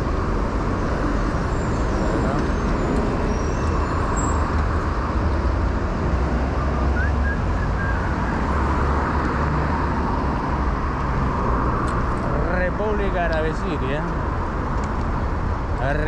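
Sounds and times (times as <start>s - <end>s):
city street traffic rumble: 0.0s - 16.0s.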